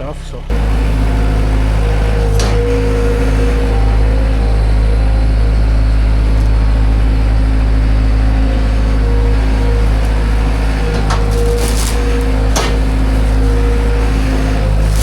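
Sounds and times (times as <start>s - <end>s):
heavy engine droning: 0.0s - 15.0s.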